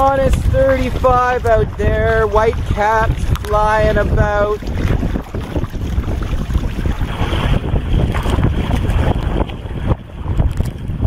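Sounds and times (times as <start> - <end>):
choppy sea: 0.0 - 11.0
gusting wind buffeting microphone: 0.0 - 11.0
splashing water: 0.0 - 11.0.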